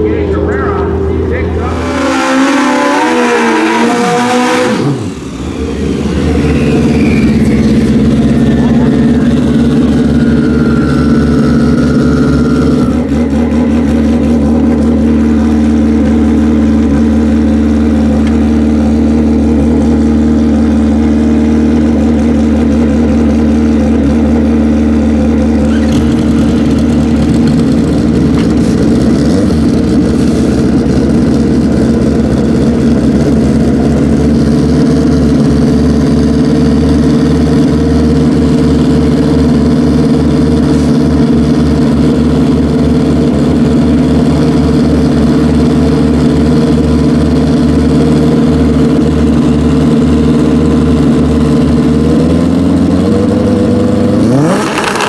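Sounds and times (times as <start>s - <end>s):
motorcycle engines idling: 0.0s - 1.8s, 4.8s - 54.2s.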